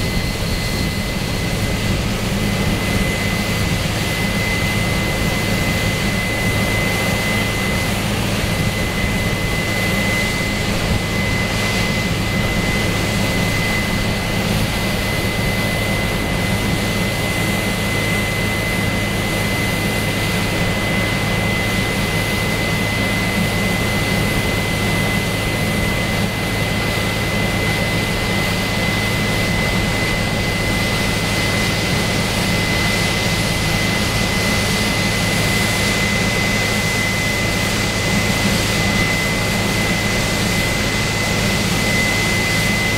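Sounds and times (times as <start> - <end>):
combine harvester engine drone: 0.0 - 42.9
high-pitched whine: 0.0 - 42.9.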